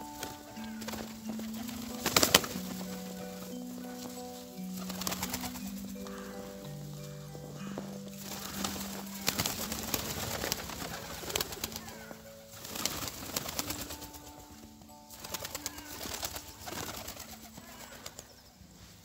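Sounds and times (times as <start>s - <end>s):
pigeon wings flapping: 0.0s - 4.1s, 4.7s - 6.3s, 7.6s - 14.5s, 15.1s - 18.3s
soft background music: 0.0s - 19.0s.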